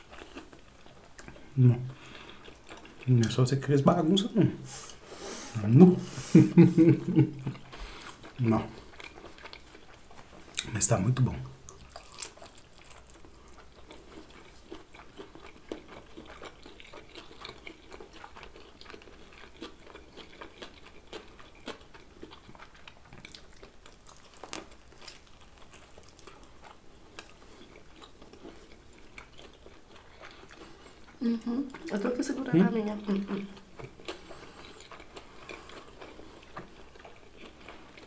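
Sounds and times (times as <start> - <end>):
pizza biting and chewing: 0.0 - 3.4, 6.8 - 10.9, 11.5 - 32.0, 33.0 - 38.0.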